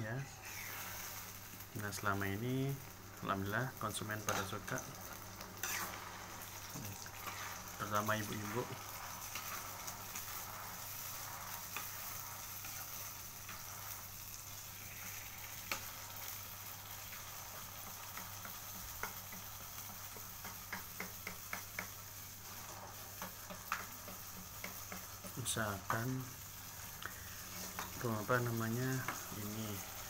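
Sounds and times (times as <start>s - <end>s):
chili paste sizzling in a pan: 0.0s - 30.0s
spatula stirring: 0.2s - 1.6s, 4.1s - 30.0s.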